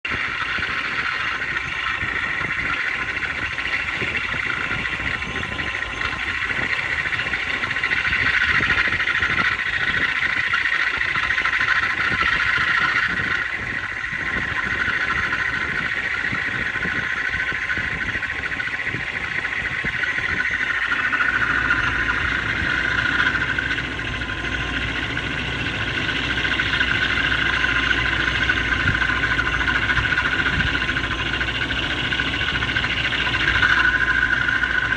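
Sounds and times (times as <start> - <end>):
deep hum: 0.0 - 34.9
mechanical whine: 0.0 - 34.9.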